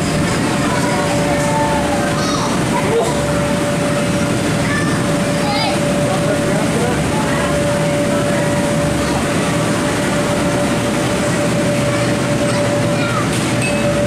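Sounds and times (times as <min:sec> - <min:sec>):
constant hum: 0:00.0 - 0:14.0
electric air blower running: 0:00.0 - 0:14.0.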